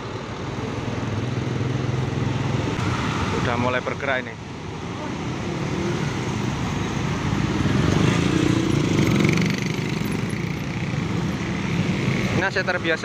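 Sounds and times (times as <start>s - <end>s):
bus engine: 0.0s - 13.0s
motorcycle engines: 0.0s - 13.0s.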